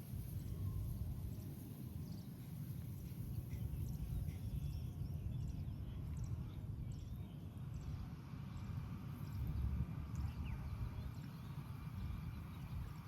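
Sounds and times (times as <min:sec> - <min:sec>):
small birds chirping: 0:01.3 - 0:13.0.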